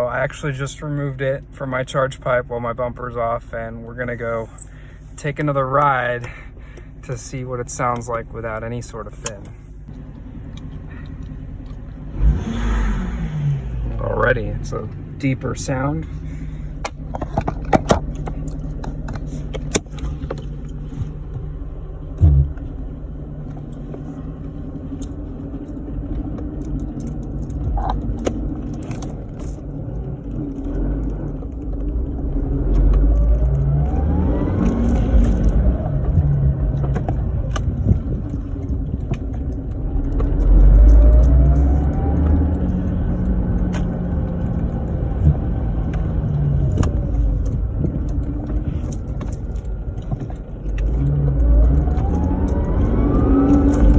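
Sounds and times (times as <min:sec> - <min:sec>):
car engine accelerating: 0:07.1 - 0:53.9
supercharger whine: 0:07.6 - 0:53.9.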